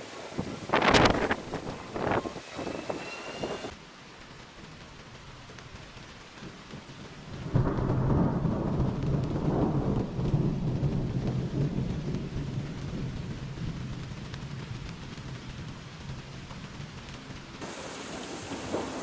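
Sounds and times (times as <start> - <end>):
thunder rumbling: 0.0 - 3.7, 6.5 - 19.0
rain hissing: 0.0 - 19.0.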